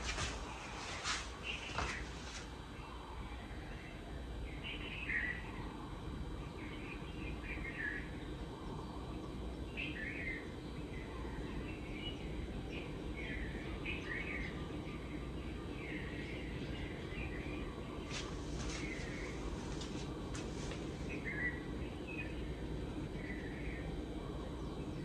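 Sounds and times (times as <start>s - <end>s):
birds chirping: 0.0s - 25.0s
ceiling fan hum: 0.0s - 25.0s.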